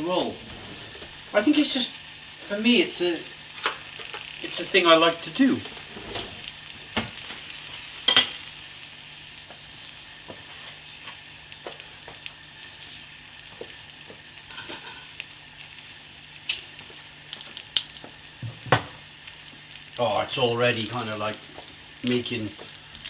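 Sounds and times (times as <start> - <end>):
burger sizzling on griddle: 0.0 - 23.0.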